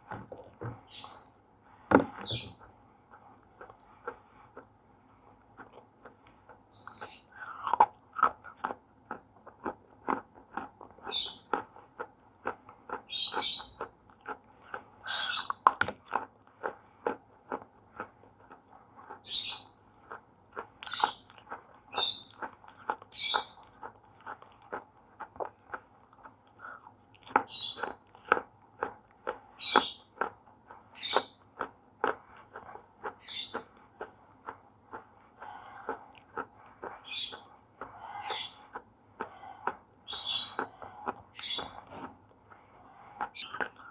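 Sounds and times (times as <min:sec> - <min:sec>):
slate pencil being chewed: 0:05.4 - 0:19.2, 0:20.0 - 0:43.9.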